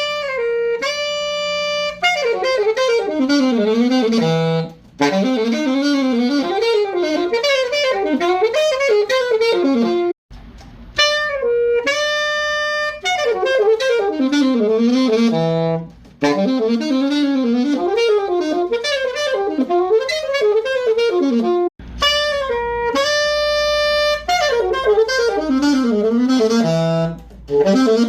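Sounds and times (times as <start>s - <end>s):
saxophone playing jazz: 0.0s - 28.0s.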